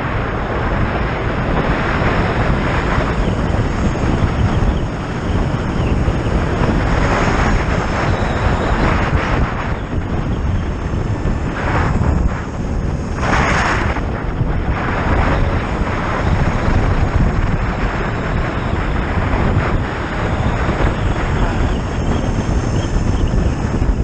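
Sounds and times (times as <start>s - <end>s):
road rumble: 0.0s - 24.0s
wind buffeting microphone: 0.0s - 24.0s.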